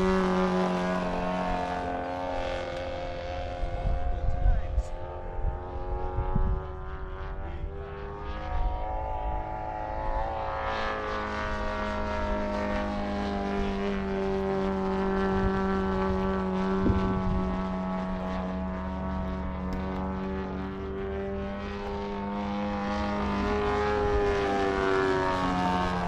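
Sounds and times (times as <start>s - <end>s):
model airplane engine and propeller: 0.0s - 26.0s.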